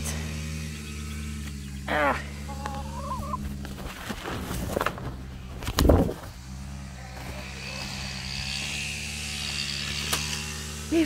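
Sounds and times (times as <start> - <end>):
low motor drone: 0.0 - 11.0.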